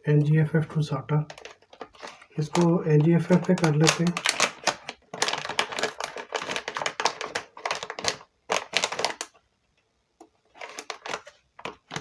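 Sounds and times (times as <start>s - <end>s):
plastic packaging crackling: 1.2s - 9.4s, 10.5s - 12.0s.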